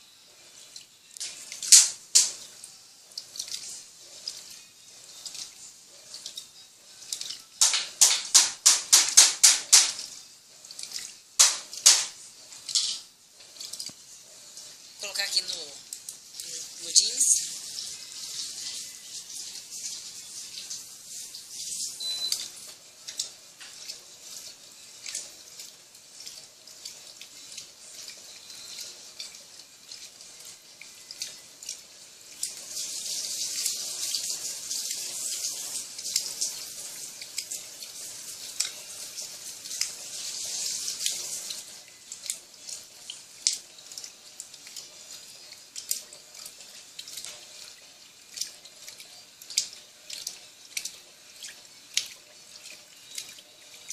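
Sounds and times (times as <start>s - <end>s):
water splashing in washing machine: 0.0s - 53.9s
small drips and clicks: 0.2s - 53.9s.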